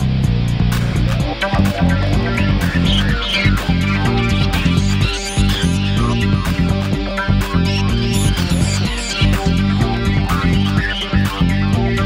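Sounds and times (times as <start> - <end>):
instrumental music with guitar and bass: 0.0 - 12.0.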